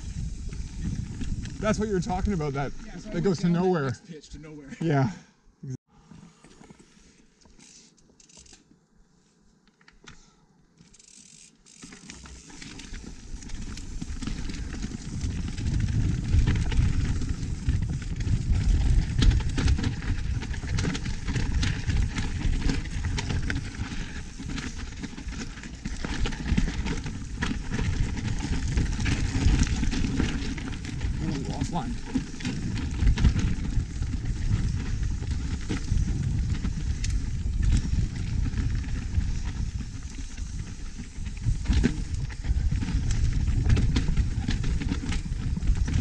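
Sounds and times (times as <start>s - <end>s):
bike rattling and clicking: 0.0s - 2.6s, 7.4s - 8.7s, 10.0s - 46.0s
tyres rumbling over rough ground: 0.0s - 3.5s, 12.2s - 46.0s.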